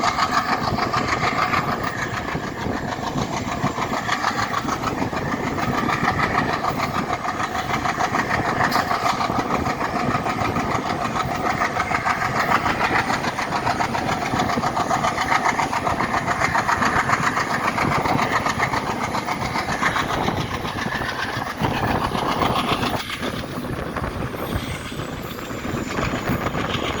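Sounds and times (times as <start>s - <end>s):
diesel locomotive engine: 0.0s - 27.0s
wheel-on-rail rumble: 0.0s - 27.0s.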